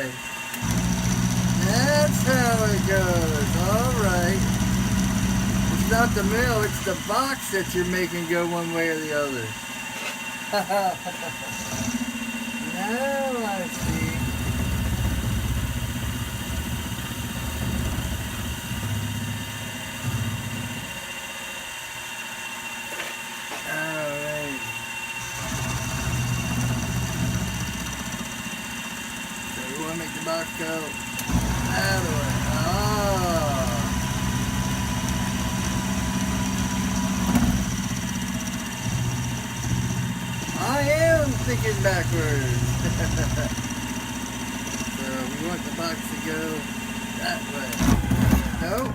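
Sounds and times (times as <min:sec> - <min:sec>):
milling machine whine: 0:00.0 - 0:48.9.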